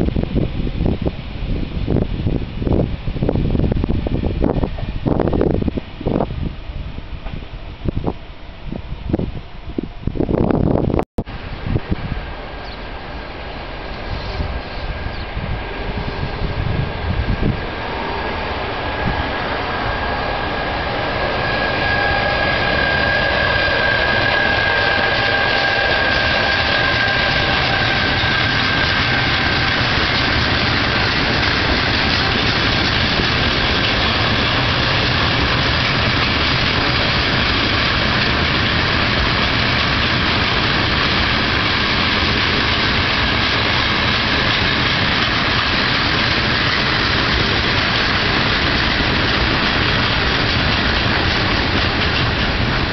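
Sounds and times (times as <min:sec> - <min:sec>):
high whine: 0:00.0 - 0:52.9
train wheels rumbling on rails: 0:00.0 - 0:52.9.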